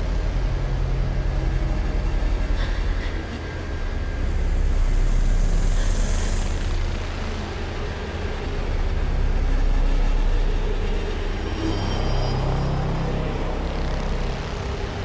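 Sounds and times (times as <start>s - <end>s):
deep rumbling drone: 0.0s - 15.0s.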